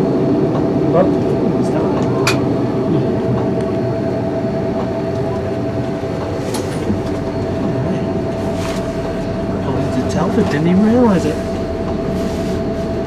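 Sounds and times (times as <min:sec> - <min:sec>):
train rumble and hum: 0:00.0 - 0:13.0.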